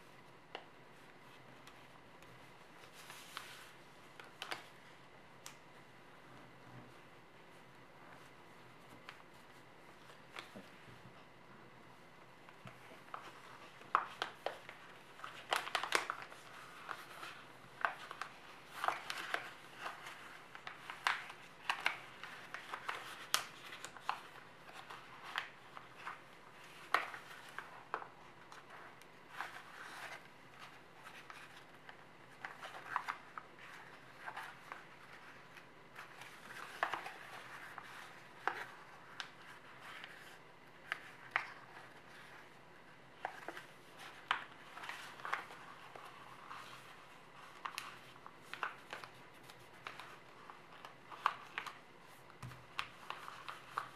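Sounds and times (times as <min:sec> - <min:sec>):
paper folding rustles and crackles: 0:00.0 - 0:11.3, 0:11.9 - 0:53.9.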